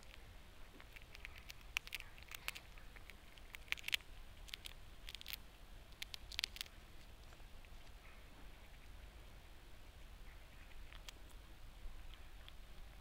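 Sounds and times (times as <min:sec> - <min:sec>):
squirrel gnawing and cracking nut: 0:00.0 - 0:13.0.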